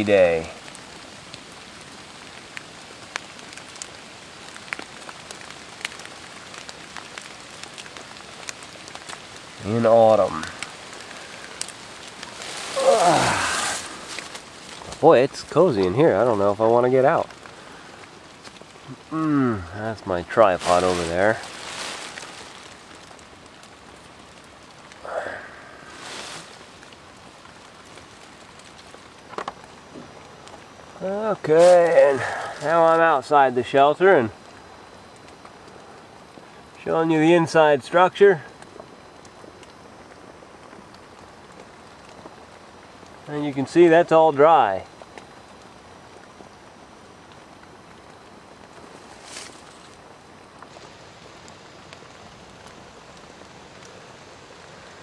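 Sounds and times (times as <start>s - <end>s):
pouring rain on trees: 0.0s - 55.0s
raindrops ticking close by: 0.0s - 55.0s.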